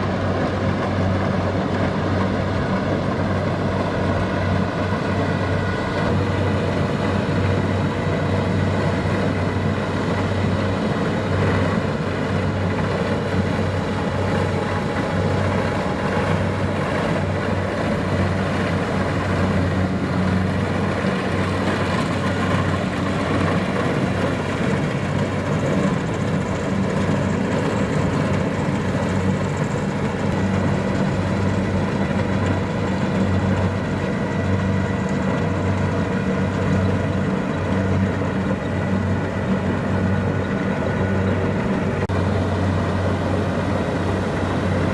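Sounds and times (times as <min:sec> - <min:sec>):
combine harvester engine drone: 0:00.0 - 0:44.9.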